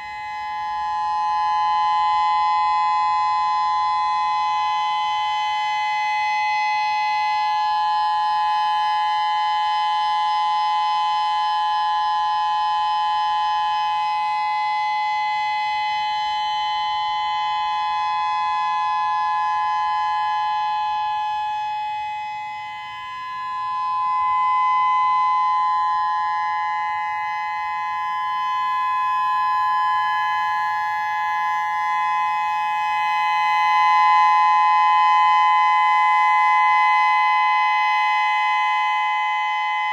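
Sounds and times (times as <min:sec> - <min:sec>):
two-note electronic siren: 0:00.0 - 0:39.9.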